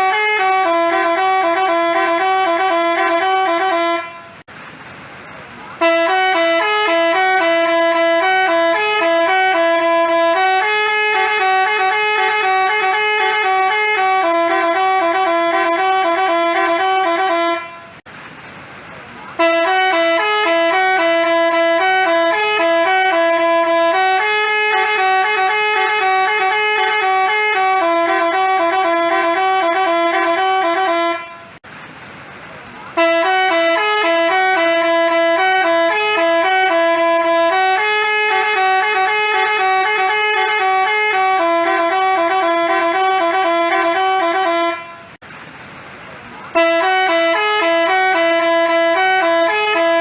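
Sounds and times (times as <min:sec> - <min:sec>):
musical horn playing a tune: 0:00.0 - 0:04.4, 0:05.8 - 0:18.0, 0:19.4 - 0:31.6, 0:33.0 - 0:45.2, 0:46.6 - 0:50.0.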